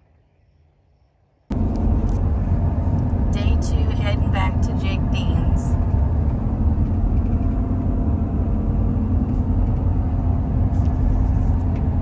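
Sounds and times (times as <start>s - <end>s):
car engine and tyre rumble: 1.5s - 12.0s.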